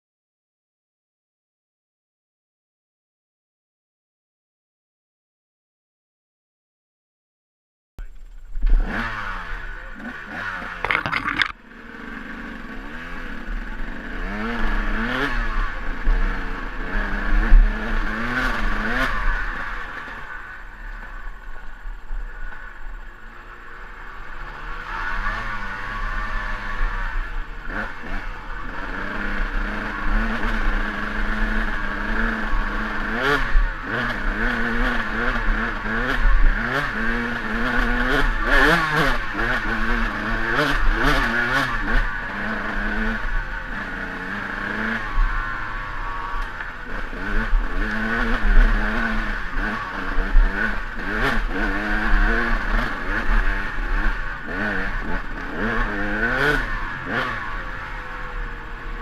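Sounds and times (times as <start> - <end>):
dirt bike engine revving: 8.7 - 21.2, 23.4 - 59.0.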